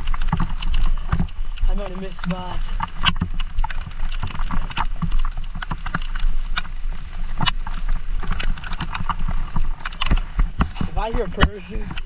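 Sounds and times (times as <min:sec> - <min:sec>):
bike clicks and knocks: 0:00.0 - 0:12.0.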